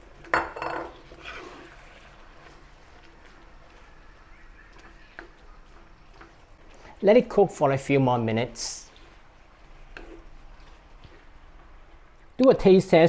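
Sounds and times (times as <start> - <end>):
wooden spatula scraping in wok: 0.9 - 12.0.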